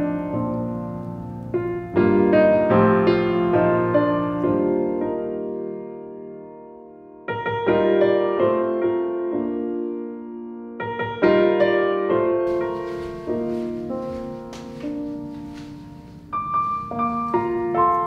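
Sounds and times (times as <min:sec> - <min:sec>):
calm piano music: 0:00.0 - 0:18.0.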